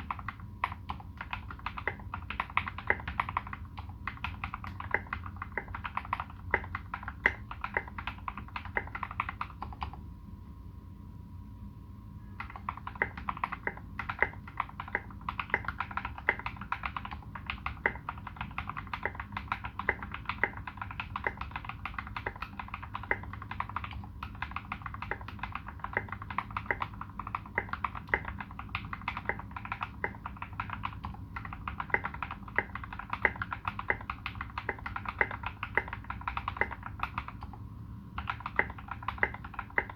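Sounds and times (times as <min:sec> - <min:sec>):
mechanical keyboard typing: 0:00.0 - 0:10.0, 0:12.4 - 0:37.6, 0:38.2 - 0:39.9.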